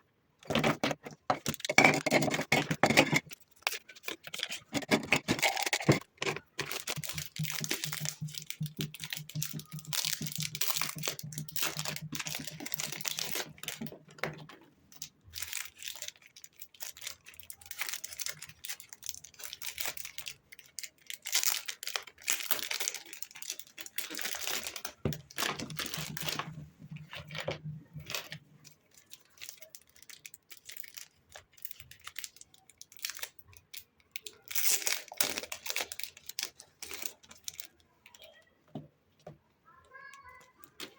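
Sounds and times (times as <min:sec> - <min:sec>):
paper rustling and crinkling: 0:00.5 - 0:14.6, 0:15.2 - 0:33.4, 0:34.2 - 0:38.3.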